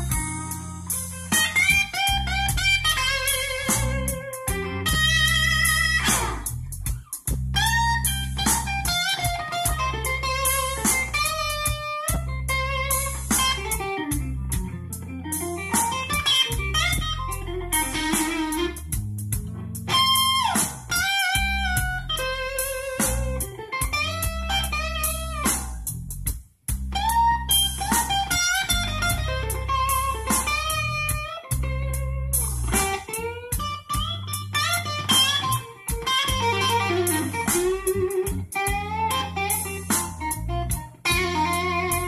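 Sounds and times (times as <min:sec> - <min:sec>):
guitar-led music from car stereo: 0:00.0 - 0:26.0, 0:26.8 - 0:42.0.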